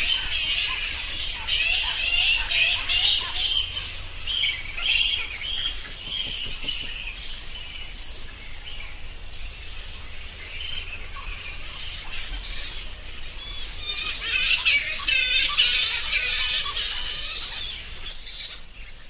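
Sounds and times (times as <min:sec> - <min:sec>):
bats squeaking and chirping: 0:00.0 - 0:19.0.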